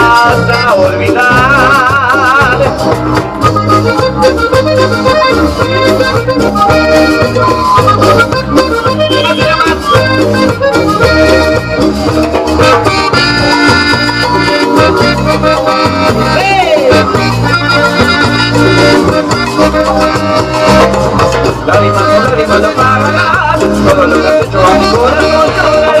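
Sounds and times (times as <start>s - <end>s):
band melody line: 0.0s - 26.0s
percussion beat: 0.0s - 26.0s
repeating bass: 0.0s - 26.0s.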